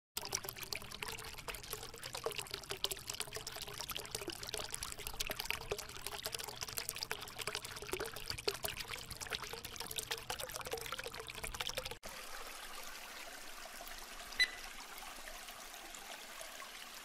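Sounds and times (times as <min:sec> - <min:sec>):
trickling bubbling water: 0:00.2 - 0:17.0.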